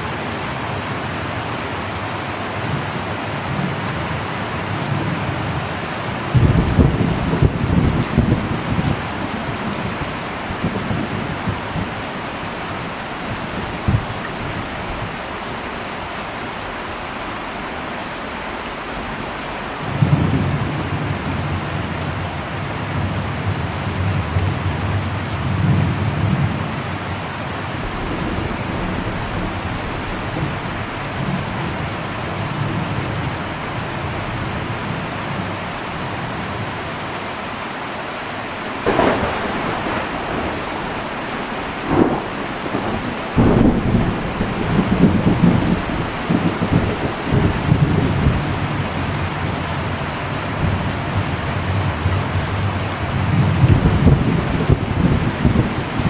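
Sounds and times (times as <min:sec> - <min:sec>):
heavy rain on a metal roof: 0:00.0 - 0:56.0
thunder rumbling: 0:03.4 - 0:15.4, 0:19.6 - 0:35.6, 0:38.6 - 0:56.0.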